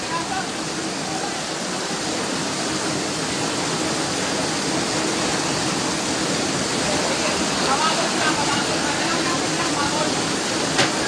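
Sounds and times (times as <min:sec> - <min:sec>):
floodwater surging: 0:00.0 - 0:11.0
torrential rain: 0:00.0 - 0:11.0.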